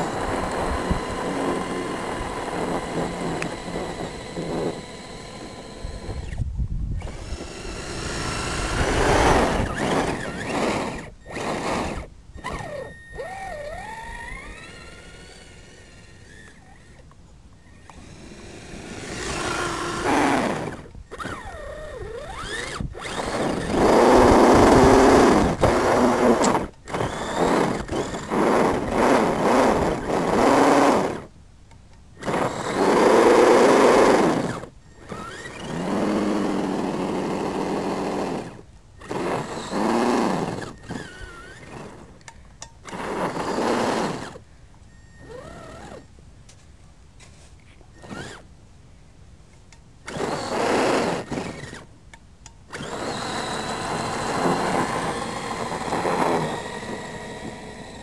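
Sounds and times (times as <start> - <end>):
wheels churning through snow: 0.0 - 6.4, 7.0 - 16.5, 18.3 - 31.3, 32.2 - 42.2, 42.9 - 44.4, 50.1 - 51.9, 52.7 - 58.0
toy car electric motor whining: 0.0 - 31.3, 32.2 - 46.1, 47.9 - 48.5, 50.0 - 51.9, 52.7 - 58.0.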